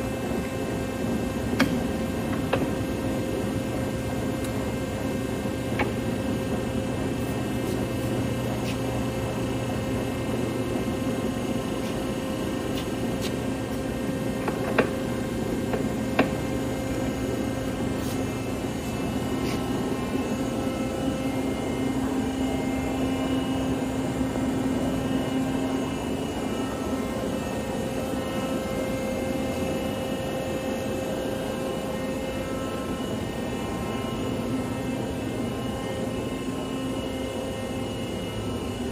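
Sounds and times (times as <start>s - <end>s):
lathe running hum: 0.0s - 38.9s.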